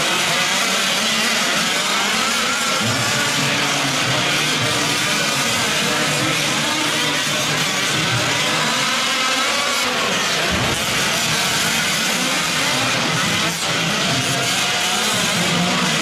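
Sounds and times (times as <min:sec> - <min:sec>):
rc truck engines revving: 0:00.0 - 0:16.0.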